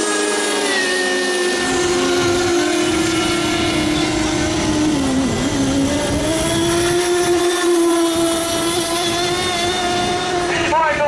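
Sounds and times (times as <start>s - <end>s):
model boat engine whining: 0.0s - 11.0s.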